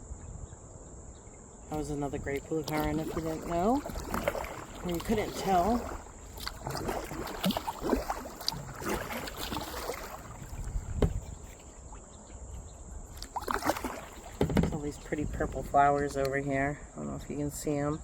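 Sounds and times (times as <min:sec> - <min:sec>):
paddle splashing in water: 0:01.7 - 0:16.4.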